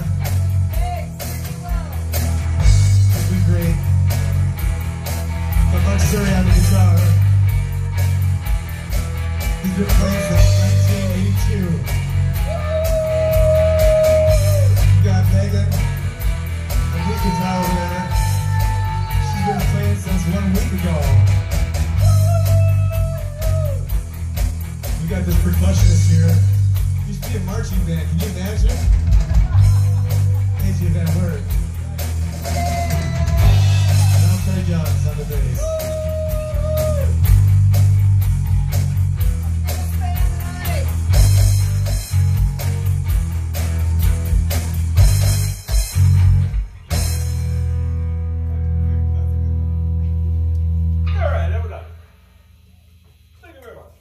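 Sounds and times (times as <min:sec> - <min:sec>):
pounding drum beat: 0:00.0 - 0:47.7
live rock band: 0:00.0 - 0:52.2.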